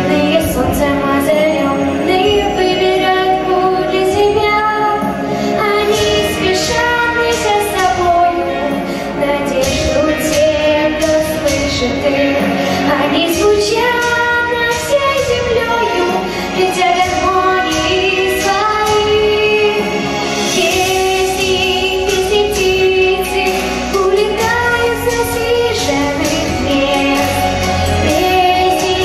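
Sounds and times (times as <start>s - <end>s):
girl singing pop song: 0.0s - 29.0s
instrumental backing track: 0.0s - 29.0s.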